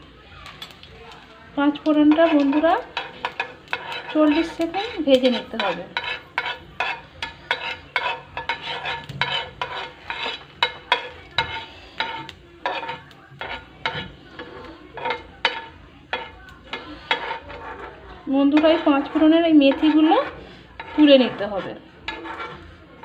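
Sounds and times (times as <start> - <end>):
spices sizzling in oil: 0.0 - 23.0
spoon scraping frying pan: 0.4 - 23.0.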